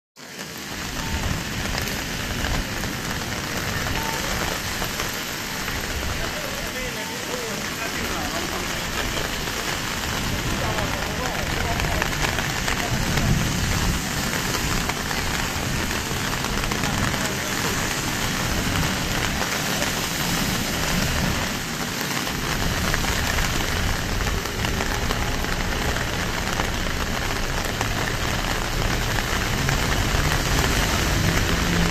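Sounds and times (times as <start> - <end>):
heavy rain pouring: 0.2 - 31.9.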